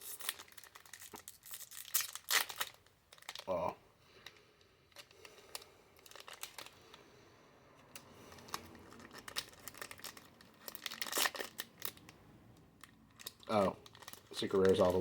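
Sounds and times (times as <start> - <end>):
foil wrapper crinkling: 0.0 - 7.0, 7.9 - 15.0.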